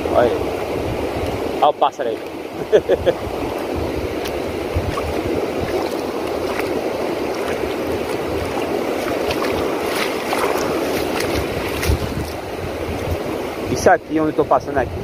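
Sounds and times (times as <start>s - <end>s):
seawater washing at shore: 0.0s - 15.0s.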